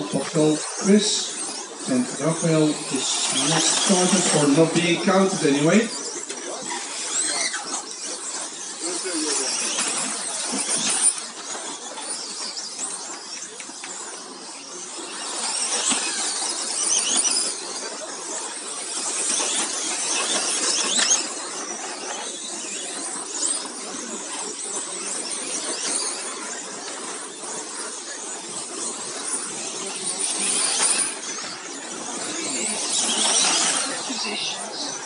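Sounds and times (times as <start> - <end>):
electric motors whining: 0.0 - 35.0.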